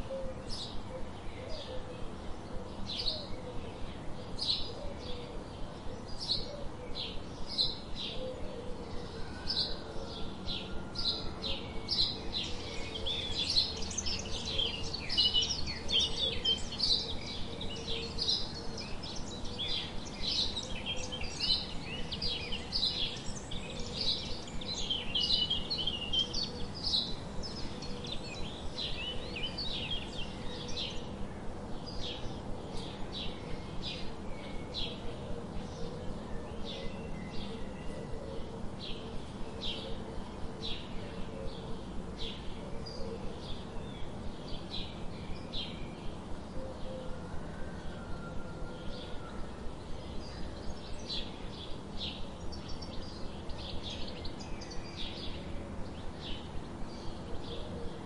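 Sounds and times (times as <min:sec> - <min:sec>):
sparrows chirping: 0:00.0 - 0:48.0, 0:48.8 - 0:58.0.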